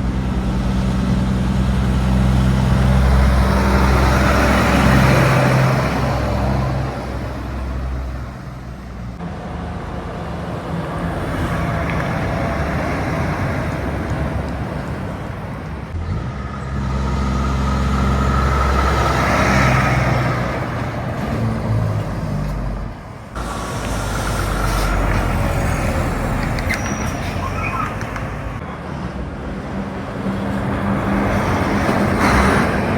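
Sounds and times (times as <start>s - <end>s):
heavy trucks passing: 0.0s - 32.9s
tyre and road noise: 0.0s - 32.9s.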